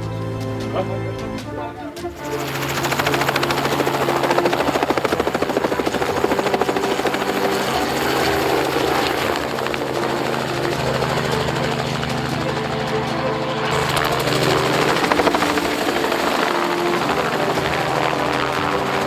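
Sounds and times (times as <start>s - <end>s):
helicopter engine hum: 0.0s - 19.0s
helicopter rotor blades chopping: 0.0s - 19.0s.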